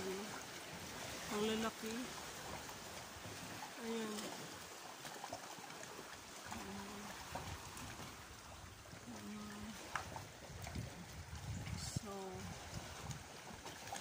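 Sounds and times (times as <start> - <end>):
sea water trickling among rocks: 0.0 - 14.0.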